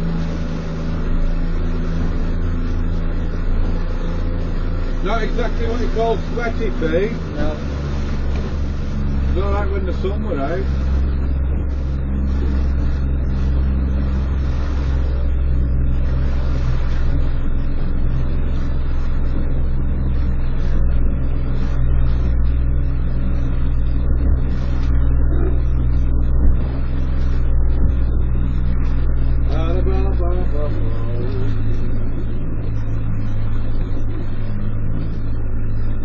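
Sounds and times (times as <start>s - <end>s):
boat engine humming: 0.0s - 36.0s.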